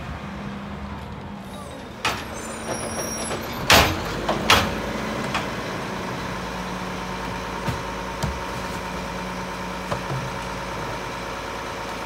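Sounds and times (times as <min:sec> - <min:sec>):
garbage truck engine running: 0:00.6 - 0:12.0.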